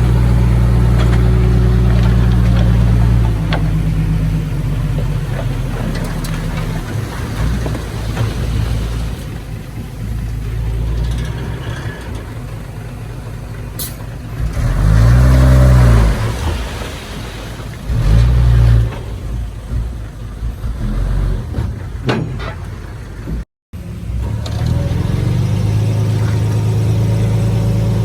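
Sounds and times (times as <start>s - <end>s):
heavy diesel engine revving: 0.0s - 28.0s.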